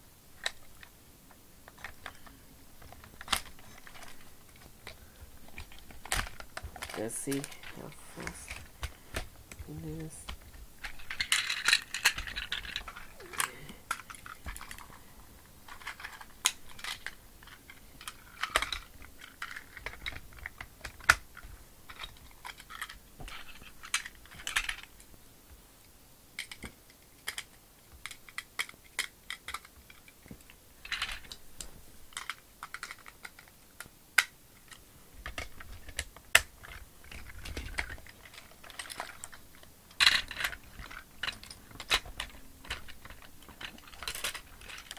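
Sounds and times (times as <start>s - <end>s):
rustling: 0.0s - 44.9s
plastic toy parts clicking: 0.4s - 0.9s, 1.6s - 15.0s, 15.6s - 25.0s, 26.4s - 44.9s.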